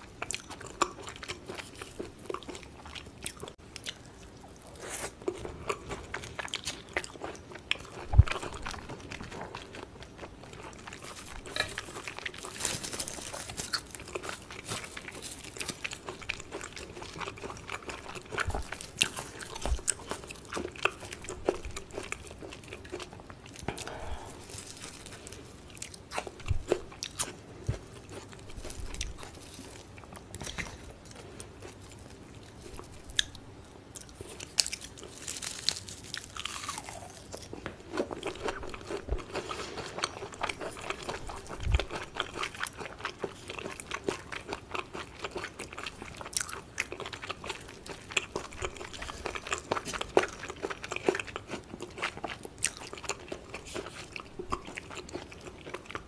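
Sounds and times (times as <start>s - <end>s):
chewing with crunching mouth sounds: 0.0s - 56.0s.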